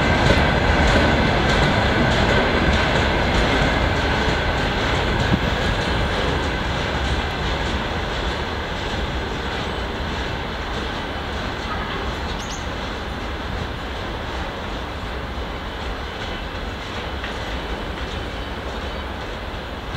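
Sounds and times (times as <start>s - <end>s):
freight train rumbling past: 0.0s - 19.9s.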